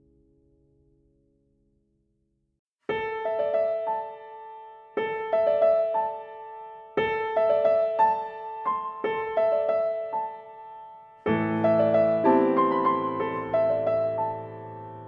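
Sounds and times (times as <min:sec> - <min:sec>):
gentle piano music: 0:02.9 - 0:15.0.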